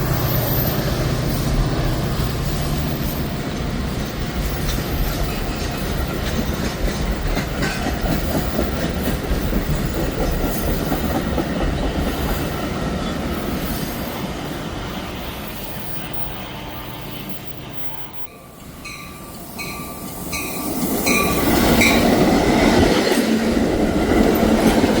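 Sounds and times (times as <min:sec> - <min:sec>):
train wheels clicking over rail joints: 0:00.0 - 0:16.4, 0:19.6 - 0:25.0
train rumble: 0:00.0 - 0:25.0.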